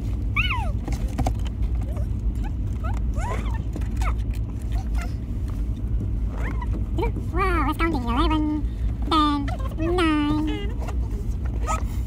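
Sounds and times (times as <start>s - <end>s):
car rumbling: 0.0s - 12.0s.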